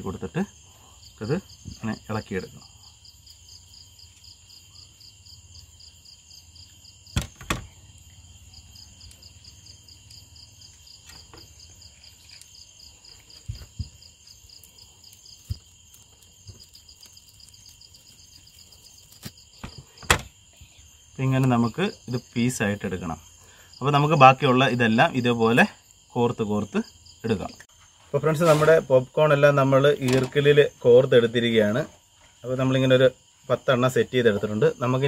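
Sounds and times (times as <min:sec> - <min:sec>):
insects chirping: 0:00.0 - 0:35.0.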